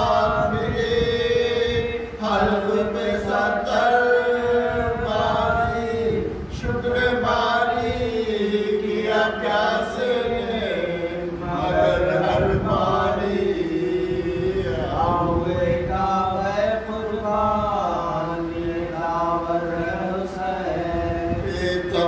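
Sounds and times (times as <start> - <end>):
man chanting melodically: 0.0 - 22.0.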